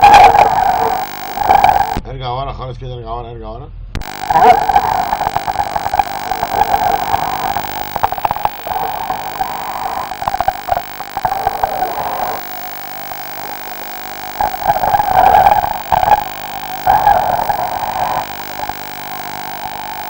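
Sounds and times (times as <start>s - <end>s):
steady hum: 0.0s - 2.0s, 4.0s - 20.0s.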